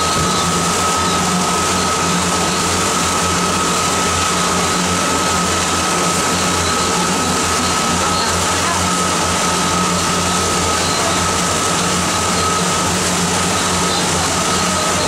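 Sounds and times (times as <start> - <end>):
boat engine droning: 0.0 - 15.0
churning wake hissing: 0.0 - 15.0
thin steady whine: 0.0 - 15.0.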